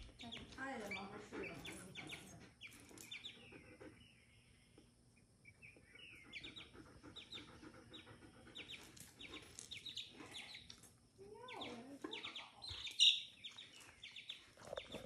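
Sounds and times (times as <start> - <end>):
chick peeping faintly: 0.0 - 15.0.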